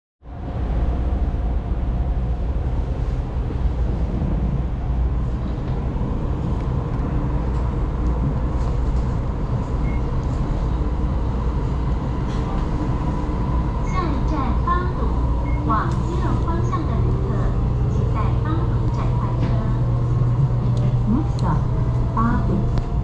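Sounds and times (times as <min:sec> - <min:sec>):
electric train rumbling: 0:00.2 - 0:23.0.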